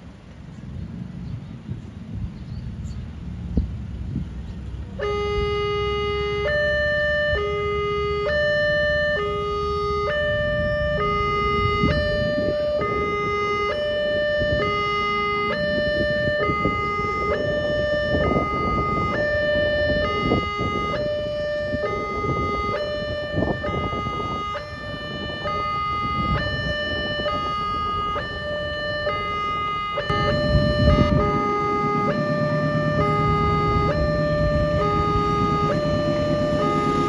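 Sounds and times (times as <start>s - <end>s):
level crossing two-tone alarm: 5.0s - 37.0s.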